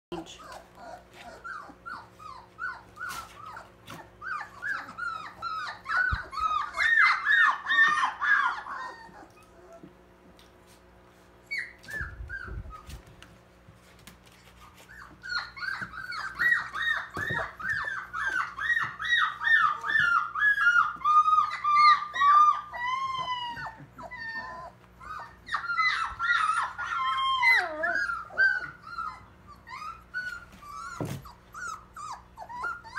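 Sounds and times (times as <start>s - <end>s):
puppies whimpering and squealing: 0.1s - 13.3s, 13.9s - 32.9s.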